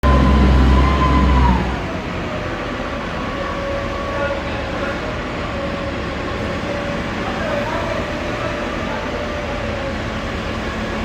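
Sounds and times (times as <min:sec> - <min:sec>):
heavy machine engine and hydraulic whine: 0:00.0 - 0:11.0.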